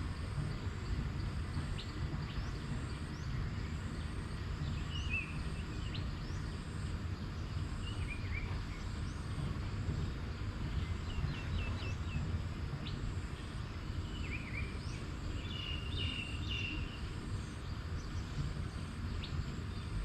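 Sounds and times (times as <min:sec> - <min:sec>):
faint high insect drone: 0:00.0 - 0:20.0
steady low rumble: 0:00.0 - 0:20.0.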